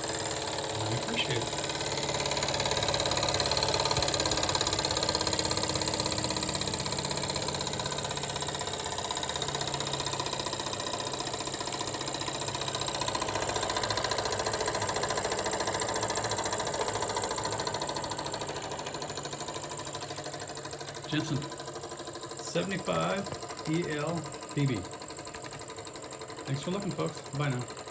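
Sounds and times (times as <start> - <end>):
toy steam engine clattering: 0.0 - 27.9.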